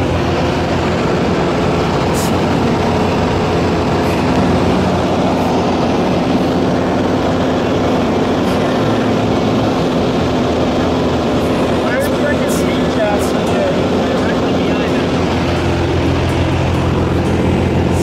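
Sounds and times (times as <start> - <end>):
plane engine and propeller: 0.0 - 18.0.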